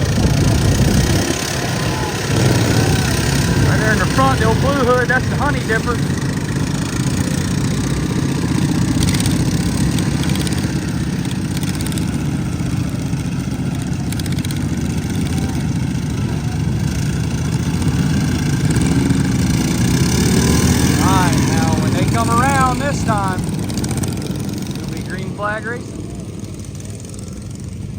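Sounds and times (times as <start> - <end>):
lawn mower engines running: 0.0 - 27.9.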